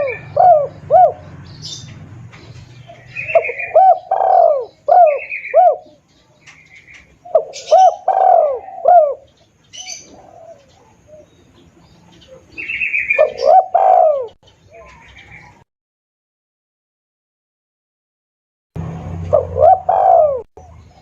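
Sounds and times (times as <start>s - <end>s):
dove cooing: 0.0s - 15.6s, 19.2s - 21.0s.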